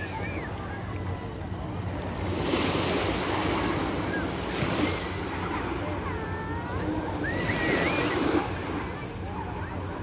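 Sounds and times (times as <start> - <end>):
small waves breaking on beach: 0.0 - 10.0.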